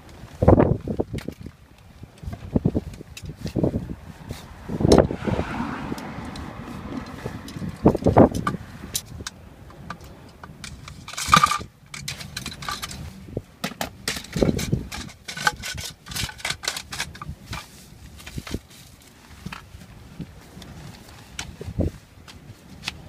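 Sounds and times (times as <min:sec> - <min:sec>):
rod sections clicking and knocking: 0:00.0 - 0:05.2, 0:05.8 - 0:23.0
scraping rustle: 0:00.0 - 0:09.2, 0:10.1 - 0:23.0.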